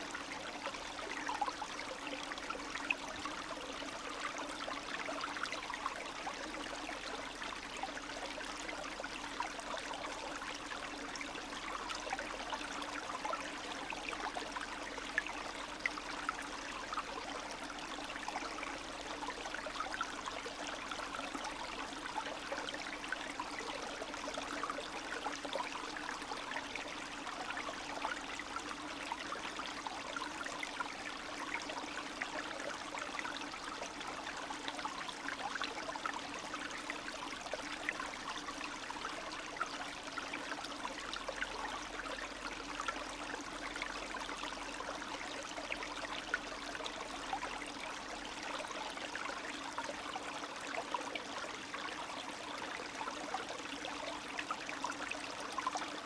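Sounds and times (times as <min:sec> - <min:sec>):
stream trickling and bubbling: 0:00.0 - 0:56.0.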